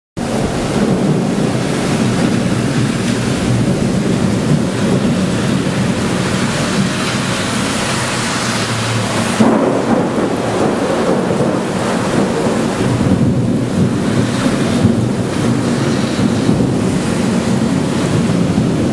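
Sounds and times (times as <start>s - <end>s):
heavy rain pouring: 0.2s - 18.9s.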